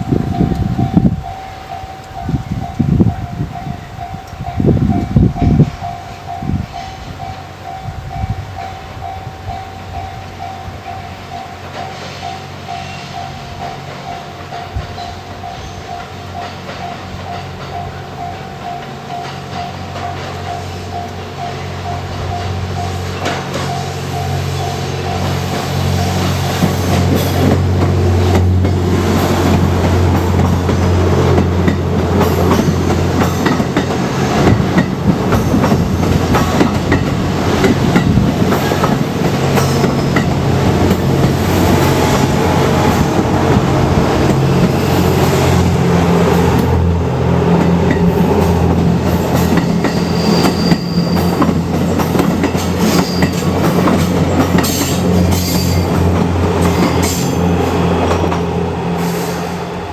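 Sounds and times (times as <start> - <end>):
train engines humming low: 0.0 - 59.9
wheels clacking over rail joints: 8.4 - 59.0.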